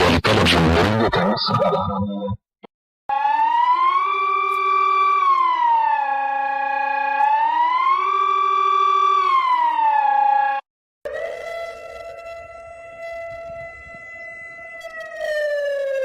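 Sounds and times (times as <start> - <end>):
emergency siren sliding up and down: 3.1 - 16.0
steady alarm tone: 3.1 - 16.0.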